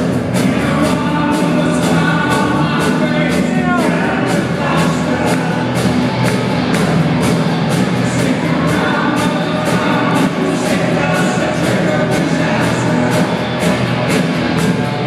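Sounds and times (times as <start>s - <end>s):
drum beat with cymbal and snare: 0.0s - 15.0s
electric guitars: 0.0s - 15.0s
live rock band playing: 0.0s - 15.0s.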